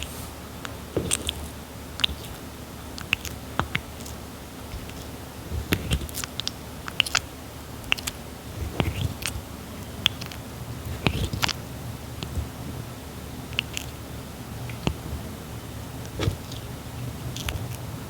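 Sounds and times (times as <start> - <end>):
tortoise chewing soft fruit: 0.0 - 18.0.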